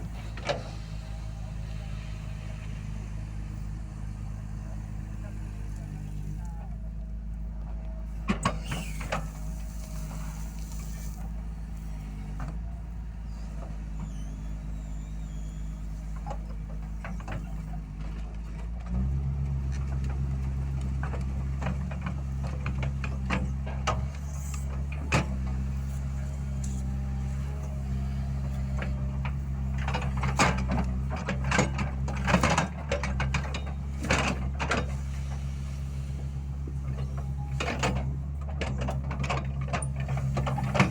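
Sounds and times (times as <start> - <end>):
heavy diesel machine running: 0.0 - 40.9.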